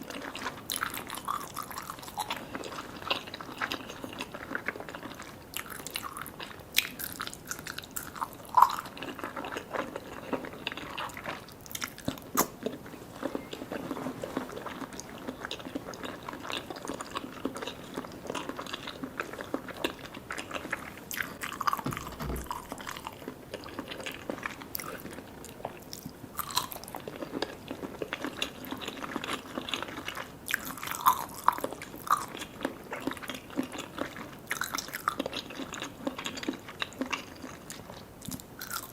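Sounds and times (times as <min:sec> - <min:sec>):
chewing and biting: 0:00.0 - 0:38.9.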